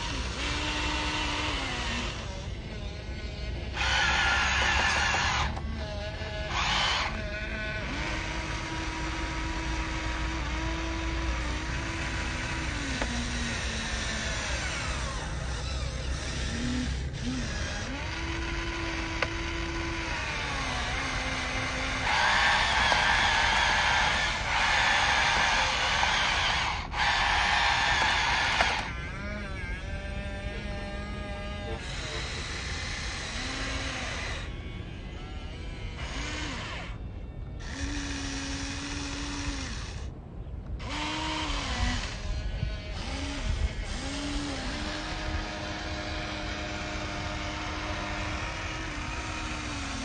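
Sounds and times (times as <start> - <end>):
toy electric motors whining: 0.0 - 50.0.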